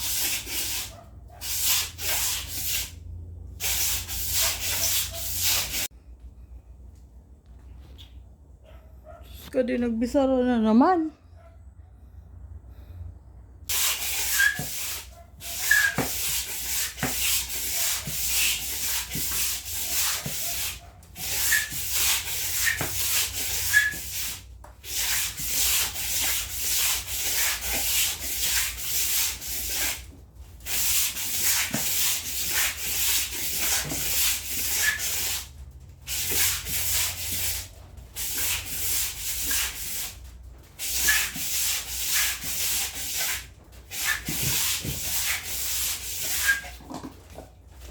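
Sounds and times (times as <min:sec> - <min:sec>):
scrubbing on a hard surface: 0:00.0 - 0:03.0, 0:03.6 - 0:05.9, 0:13.7 - 0:47.9.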